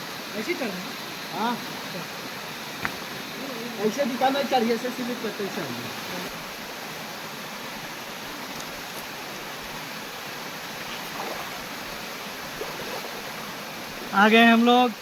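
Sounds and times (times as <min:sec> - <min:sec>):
waterfall stream rushing: 0:00.0 - 0:15.0.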